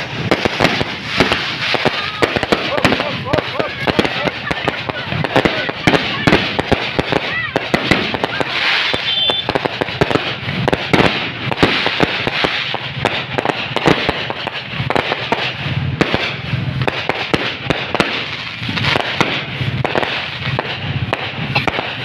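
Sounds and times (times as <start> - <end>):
fireworks and firecrackers bangs: 0.0 - 22.0.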